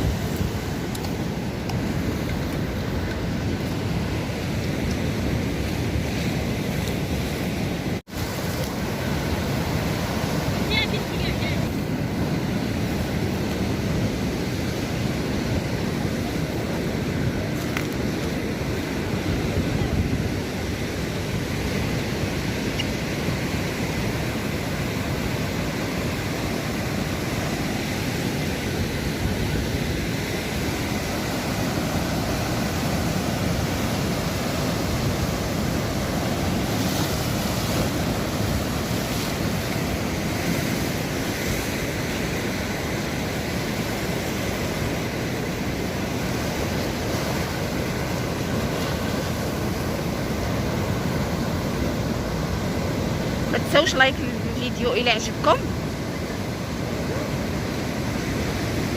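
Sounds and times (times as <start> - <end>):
sea waves breaking on shore: 0.0 - 58.9
wind buffeting microphone: 0.0 - 58.9.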